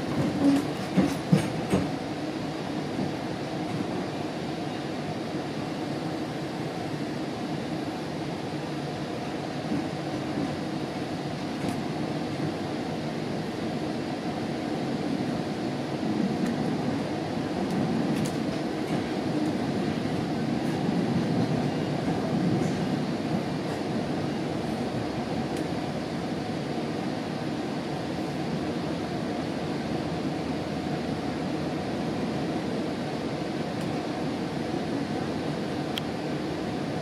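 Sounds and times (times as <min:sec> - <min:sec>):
train coach rumble: 0:00.0 - 0:37.0.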